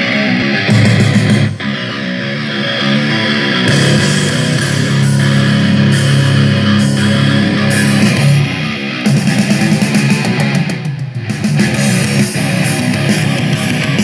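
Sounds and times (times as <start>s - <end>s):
heavy rock music: 0.0s - 14.0s.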